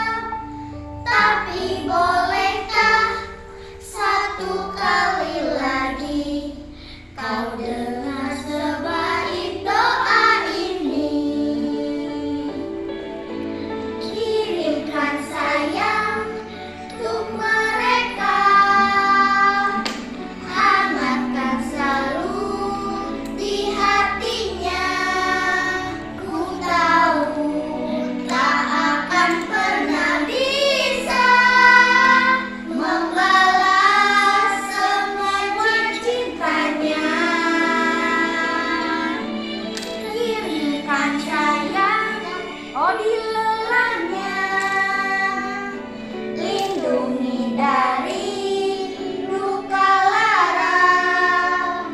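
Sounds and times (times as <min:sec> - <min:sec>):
musical accompaniment: 0:00.0 - 0:51.9
child singing: 0:01.1 - 0:12.6, 0:14.1 - 0:39.3, 0:40.0 - 0:45.8, 0:46.4 - 0:51.9.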